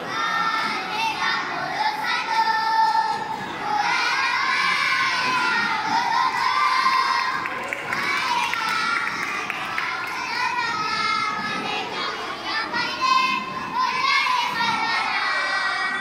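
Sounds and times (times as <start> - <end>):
children's choir singing: 0.0 - 16.0.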